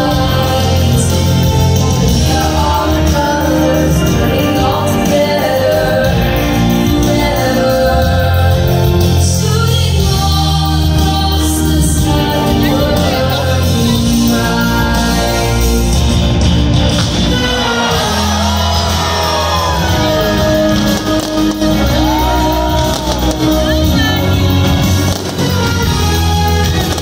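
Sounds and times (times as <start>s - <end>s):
show music with singing over loudspeakers: 0.0s - 27.0s.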